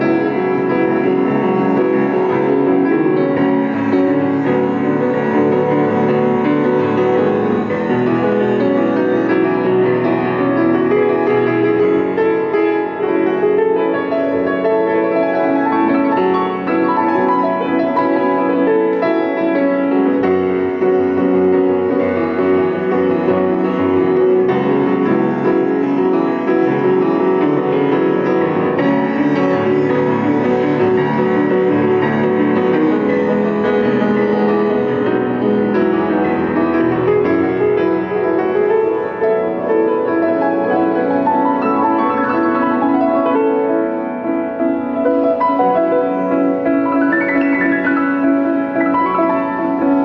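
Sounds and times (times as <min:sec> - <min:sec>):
grand piano playing: 0:00.0 - 0:50.0.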